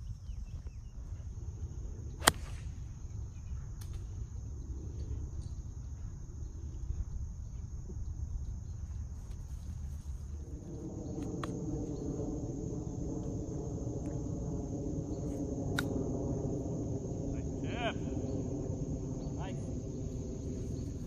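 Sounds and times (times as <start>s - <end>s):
high insect hum: 0.0s - 21.0s.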